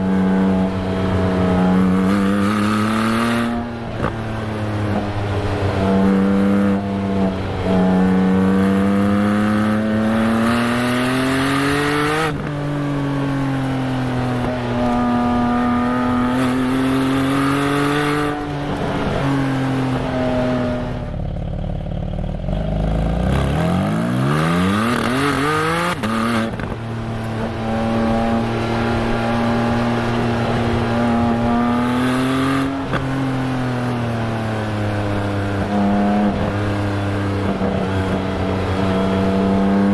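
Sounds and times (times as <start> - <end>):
car exhaust revving through gears: 0.0 - 21.2, 22.0 - 39.9.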